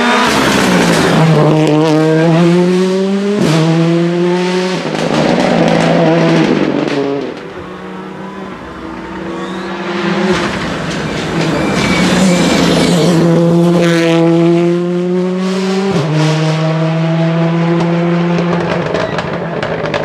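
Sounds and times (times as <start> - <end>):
rally car engine at full throttle: 0.0 - 20.0.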